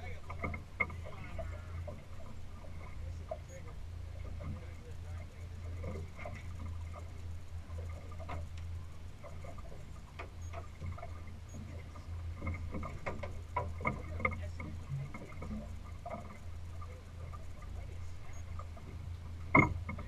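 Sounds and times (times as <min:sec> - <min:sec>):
sharp clicks and knocks: 0:00.0 - 0:04.8, 0:07.8 - 0:20.0
boat engine hum: 0:00.0 - 0:20.0.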